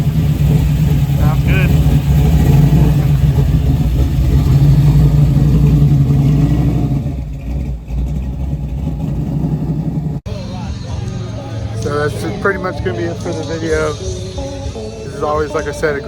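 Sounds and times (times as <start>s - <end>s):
car engine and exhaust rumble: 0.0s - 16.0s.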